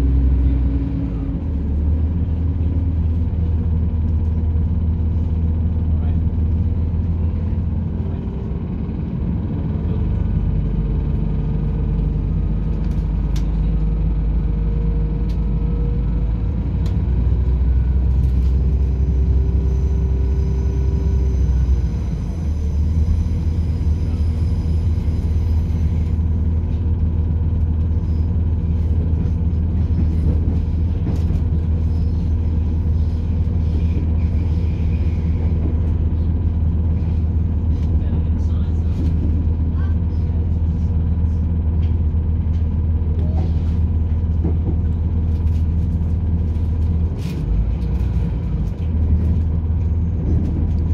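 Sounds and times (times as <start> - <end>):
train diesel engine rumble: 0.0 - 50.9.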